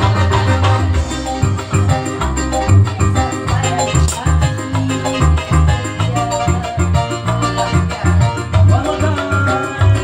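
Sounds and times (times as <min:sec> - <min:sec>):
live band music: 0:00.0 - 0:10.0.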